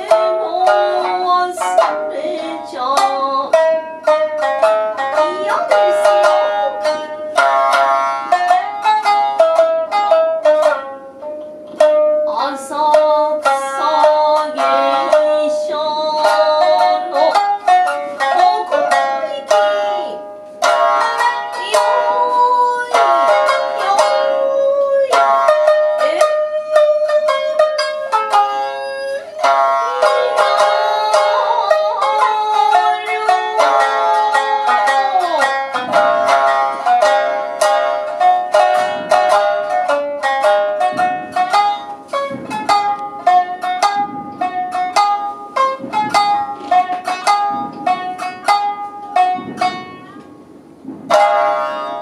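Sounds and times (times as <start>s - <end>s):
shamisen plucked notes: 0.0s - 52.0s
struck shamisen note ringing: 0.0s - 52.0s.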